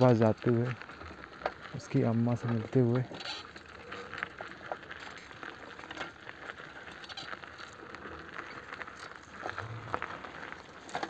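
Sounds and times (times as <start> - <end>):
faint crackles and clicks: 0.0 - 11.0.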